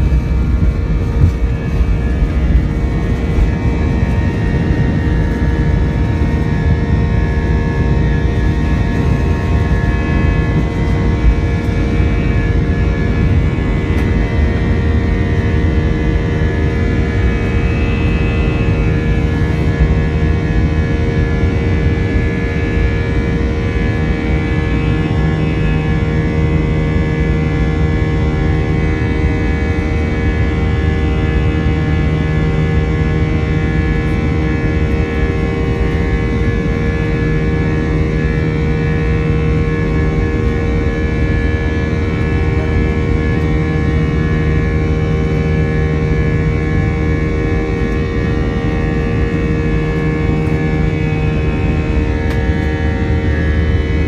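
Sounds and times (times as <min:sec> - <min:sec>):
jet cabin engine drone: 0:00.0 - 0:54.0
low hum: 0:00.0 - 0:54.0.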